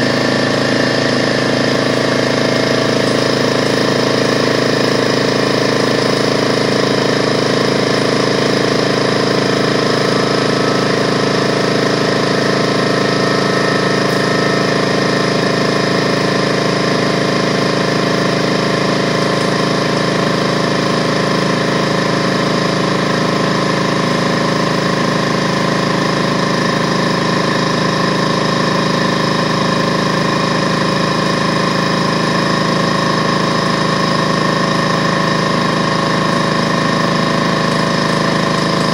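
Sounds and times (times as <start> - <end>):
electric air compressor running: 0.0 - 38.9.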